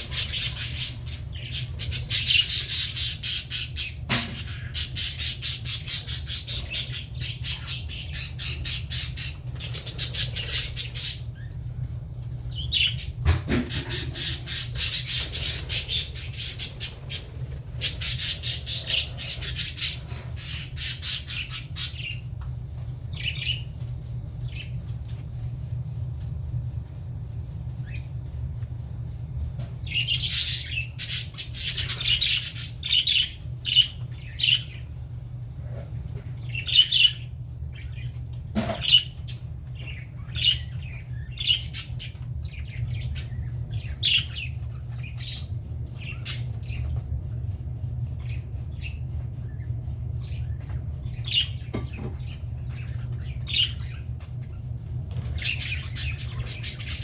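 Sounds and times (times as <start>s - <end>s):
budgerigars chattering and squawking: 0.0s - 11.8s, 12.5s - 22.2s, 29.8s - 34.8s, 35.7s - 47.4s, 48.1s - 57.0s
steady low hum: 0.0s - 57.0s.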